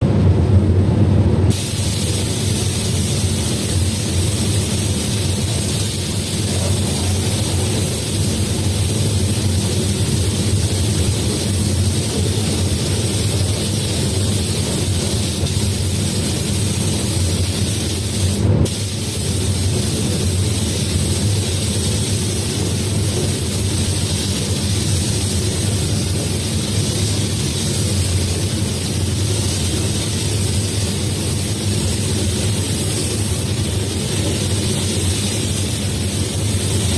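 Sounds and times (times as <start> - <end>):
paint spray gun hissing: 1.5 - 36.9.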